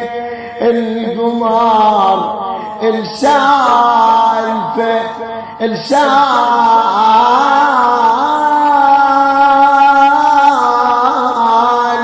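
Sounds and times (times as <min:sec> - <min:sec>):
man singing a long note: 0:00.0 - 0:12.0.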